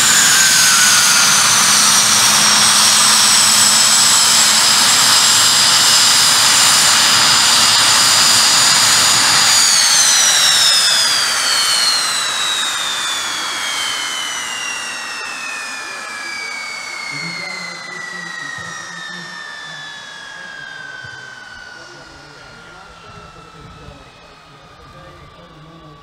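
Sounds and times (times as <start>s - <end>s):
turbojet engine whining: 0.0s - 26.0s.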